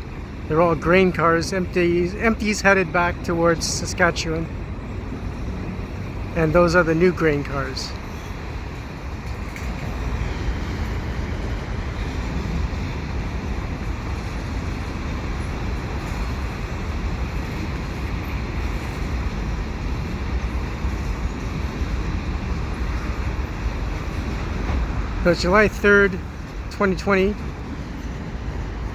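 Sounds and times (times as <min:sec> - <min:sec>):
freight train wheels on rails: 0:00.0 - 0:28.9.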